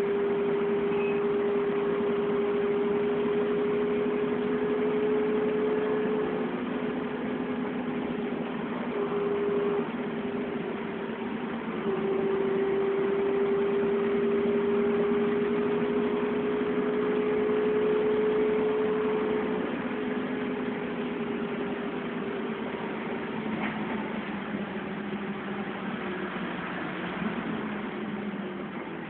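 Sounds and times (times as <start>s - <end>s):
bus engine running: 0.0s - 29.0s
drivetrain whine: 0.0s - 29.0s
road noise: 0.0s - 29.0s.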